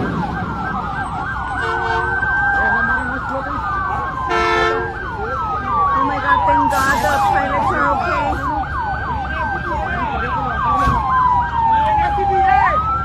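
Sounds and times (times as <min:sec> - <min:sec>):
siren fast yelp: 0:00.0 - 0:13.0
siren slow falling wail: 0:00.0 - 0:13.0.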